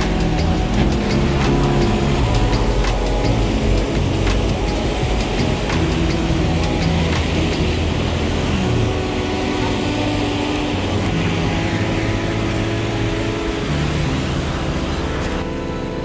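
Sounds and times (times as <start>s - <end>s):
soft music of held chords: 0.0s - 16.0s
tyres hissing on wet road: 0.0s - 16.0s.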